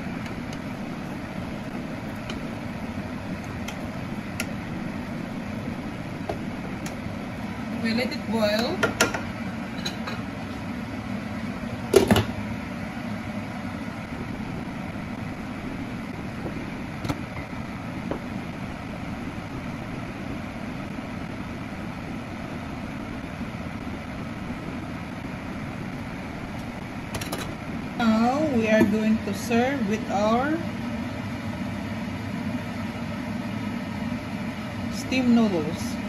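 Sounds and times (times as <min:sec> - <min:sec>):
pan boiling: 0:00.0 - 0:35.9.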